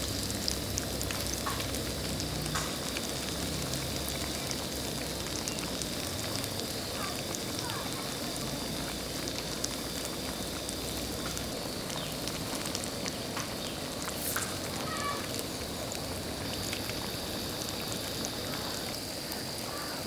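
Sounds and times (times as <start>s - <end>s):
food deep-frying in oil: 0.0s - 20.0s.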